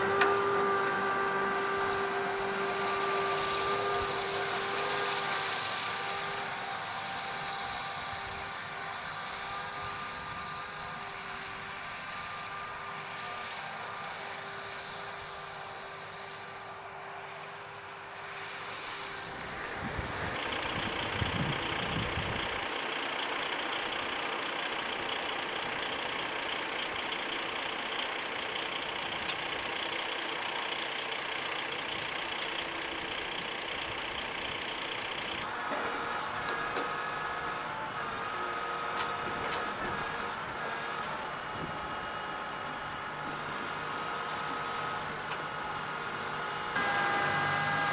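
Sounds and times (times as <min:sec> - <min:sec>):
hissing drone: 0:00.0 - 0:41.7, 0:43.0 - 0:47.9
tractor engine running: 0:00.0 - 0:47.9.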